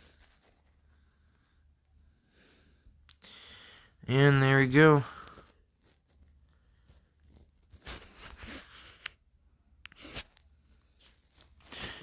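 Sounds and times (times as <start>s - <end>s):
faint rustling and crinkling: 0.0s - 2.7s, 4.6s - 12.0s.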